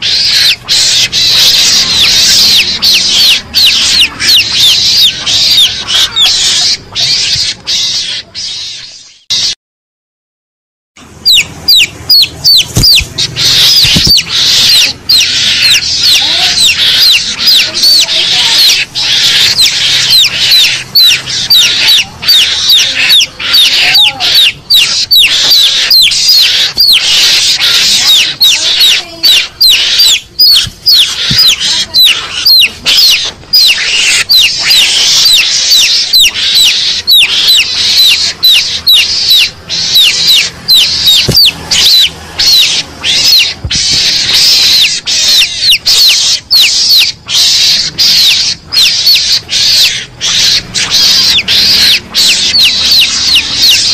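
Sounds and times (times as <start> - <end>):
high-pitched squealing chirps: 0.0 - 9.6, 11.0 - 53.9.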